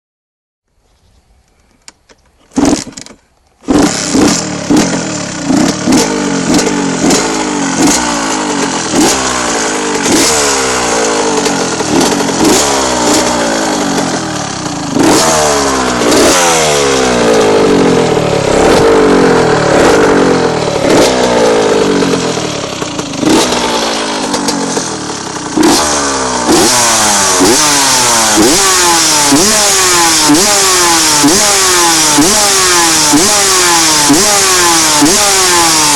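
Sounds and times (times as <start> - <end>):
two-stroke engine revving: 2.5 - 35.9.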